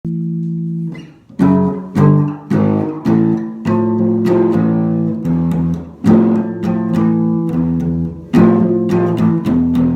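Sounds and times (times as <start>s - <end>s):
guitar chords strummed: 0.1s - 9.9s.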